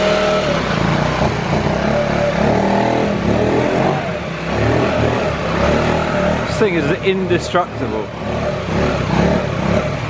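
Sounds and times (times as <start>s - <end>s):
moped engine revving: 0.0s - 10.0s.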